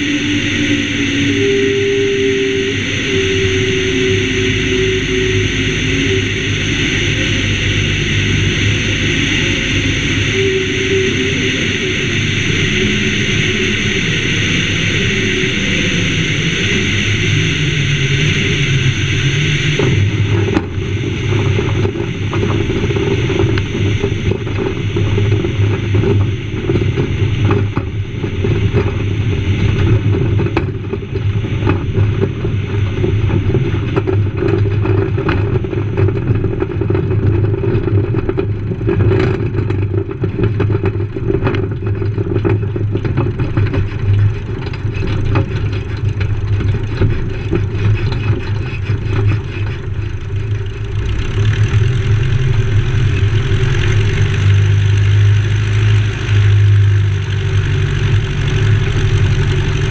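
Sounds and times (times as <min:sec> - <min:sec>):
rushing wind: 0:00.0 - 0:59.9
small plane engine: 0:00.0 - 0:59.9.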